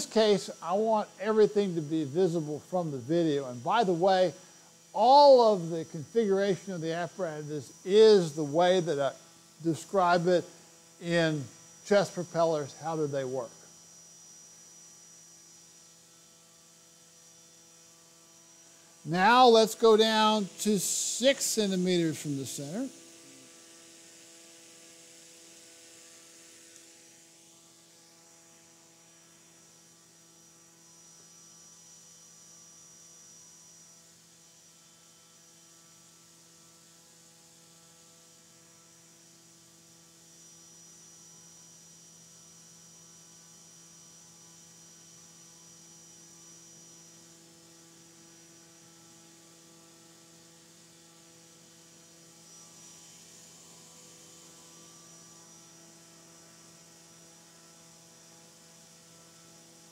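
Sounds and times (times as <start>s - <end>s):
high motor whine: 0.0s - 37.6s, 38.2s - 59.9s.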